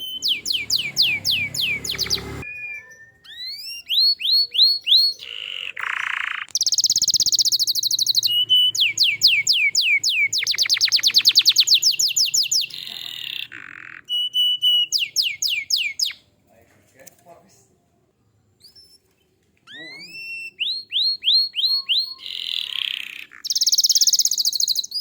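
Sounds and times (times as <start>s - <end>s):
canary singing: 0.0s - 16.4s, 18.4s - 25.0s.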